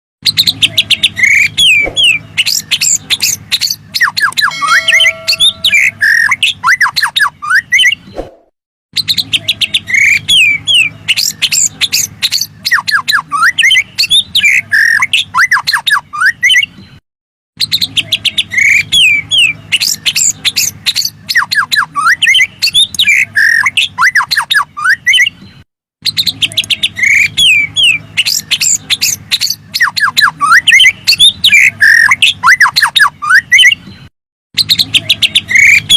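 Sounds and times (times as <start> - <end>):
songbird whistles and harsh chirps: 0.2 - 16.7, 17.6 - 25.4, 26.0 - 33.8, 34.6 - 35.9.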